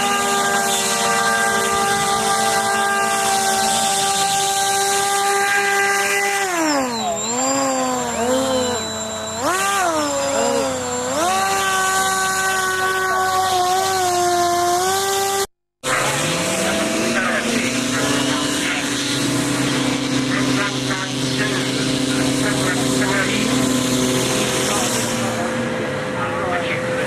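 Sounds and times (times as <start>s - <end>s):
model hovercraft motors whining: 0.0s - 26.8s.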